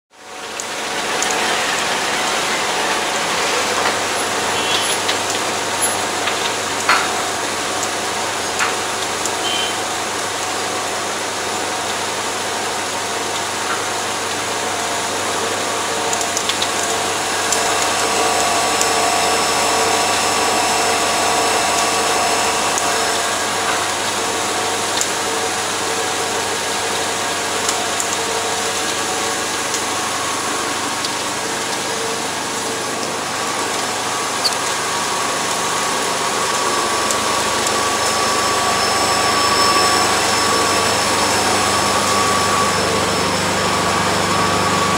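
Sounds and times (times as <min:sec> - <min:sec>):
construction rig running: 0:00.1 - 0:44.9.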